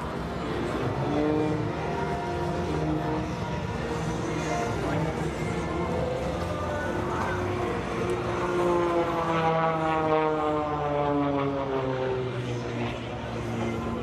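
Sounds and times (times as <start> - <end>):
propeller airplane flying past: 0.0 - 14.0.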